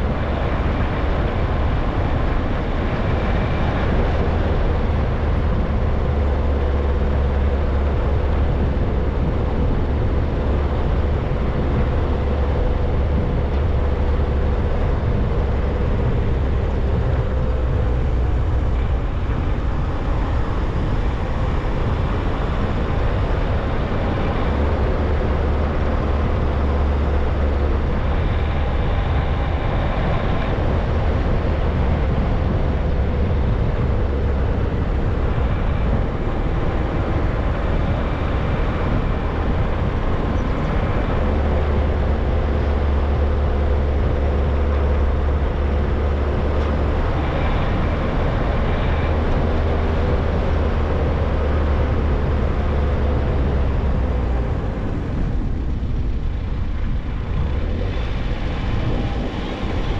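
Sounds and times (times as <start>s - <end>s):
car engine hum: 0.0s - 59.9s
tyre and road noise: 0.0s - 59.9s.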